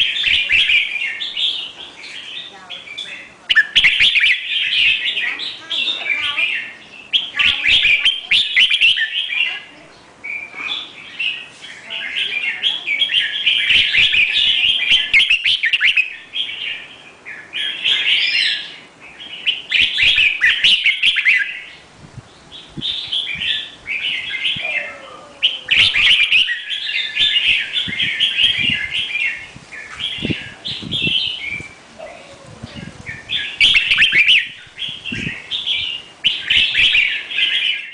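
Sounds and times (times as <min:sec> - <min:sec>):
songbird chirping: 0:00.0 - 0:37.9.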